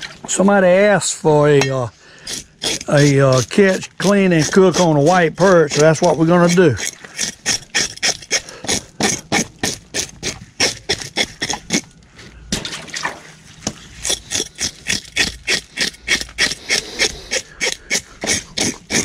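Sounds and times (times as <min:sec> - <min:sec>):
fish scaler scraping scales: 0:01.6 - 0:12.0, 0:12.9 - 0:19.0.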